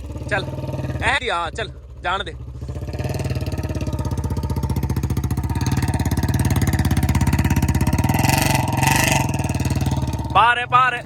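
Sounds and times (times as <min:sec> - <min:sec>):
motorcycle engine running hard: 0:00.0 - 0:11.0.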